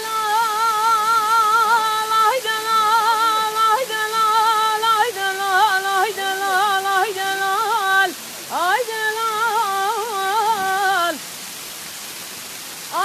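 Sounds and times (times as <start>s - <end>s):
woman singing unaccompanied: 0.0s - 11.2s
waterfall rushing: 0.0s - 13.0s.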